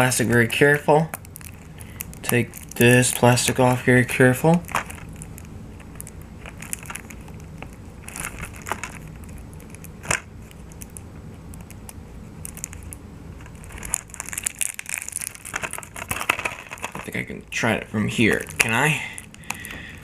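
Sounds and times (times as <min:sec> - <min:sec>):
plastic wrap crinkling: 0:00.0 - 0:17.4, 0:18.0 - 0:20.0.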